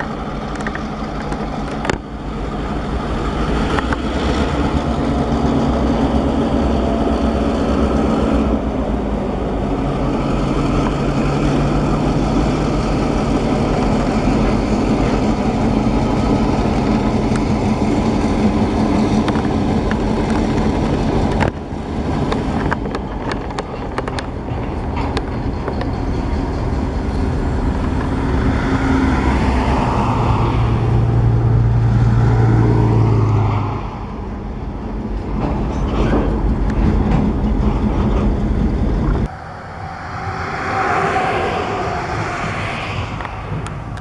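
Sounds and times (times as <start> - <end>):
locomotive engine drone: 0.0 - 44.0
train rolling rumble: 0.0 - 44.0.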